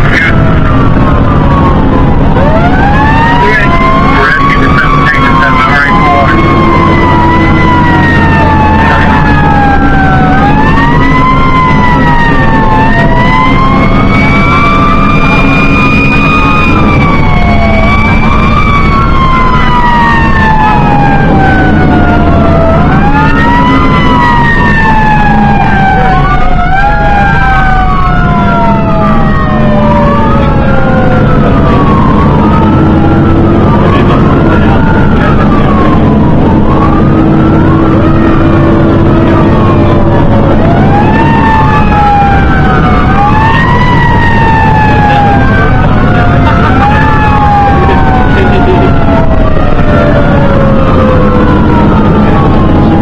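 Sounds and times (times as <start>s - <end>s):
fire engine running: 0.0s - 53.0s
fire engine sirens wailing: 0.0s - 53.0s.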